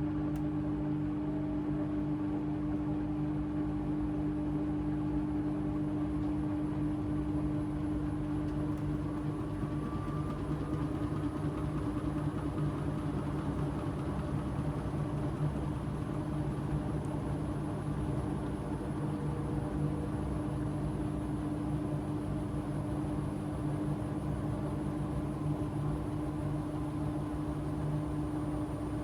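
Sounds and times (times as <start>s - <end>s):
washing machine motor hum: 4.7s - 29.0s.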